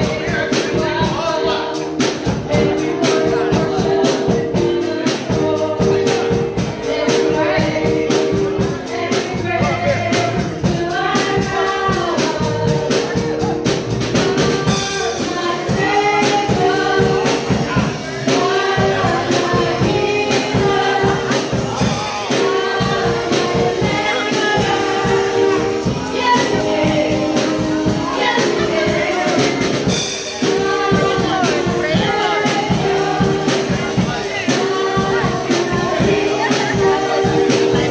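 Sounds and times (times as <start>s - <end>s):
held chords: 0.0s - 37.9s
steady beat: 0.0s - 37.9s
voices singing together: 0.0s - 37.9s.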